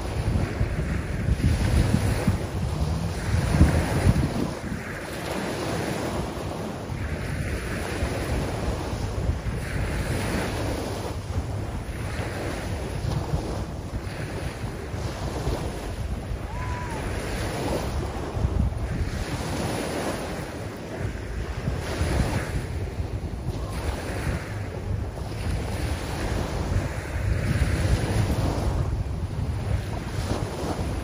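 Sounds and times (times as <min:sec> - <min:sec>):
small waves breaking on beach: 0:00.0 - 0:31.0
wind buffeting microphone: 0:00.0 - 0:31.0.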